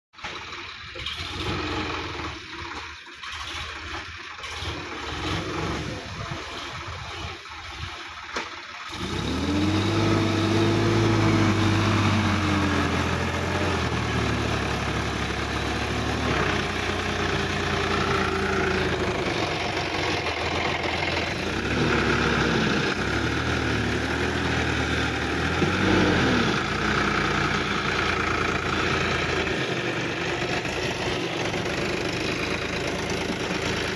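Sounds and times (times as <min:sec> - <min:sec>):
tractor diesel engine revving: 0:00.2 - 0:33.9.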